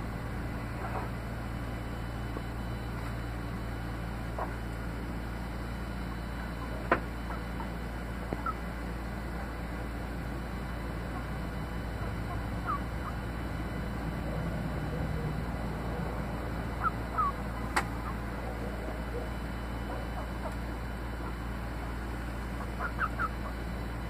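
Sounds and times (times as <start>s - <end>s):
room hum: 0.0s - 24.0s
rats squeaking faintly: 0.3s - 24.0s.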